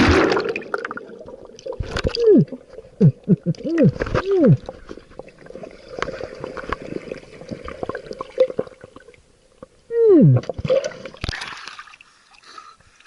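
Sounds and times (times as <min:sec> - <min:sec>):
underwater bubbles gurgling: 0:00.0 - 0:11.3.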